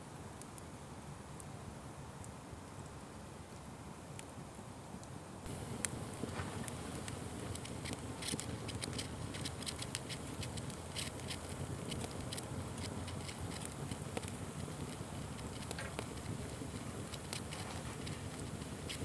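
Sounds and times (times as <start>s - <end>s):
fire crackling and popping: 2.2s - 19.0s.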